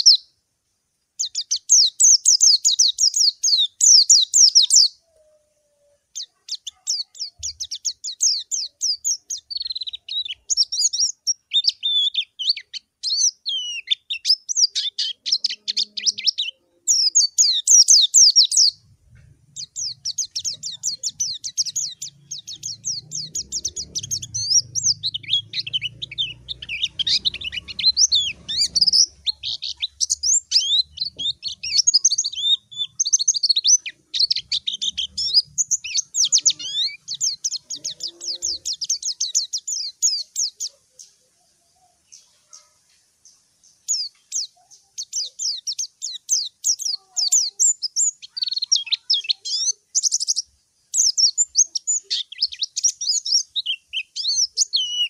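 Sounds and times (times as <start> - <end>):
bird chirping and trilling: 0.0 - 0.3, 1.2 - 55.0.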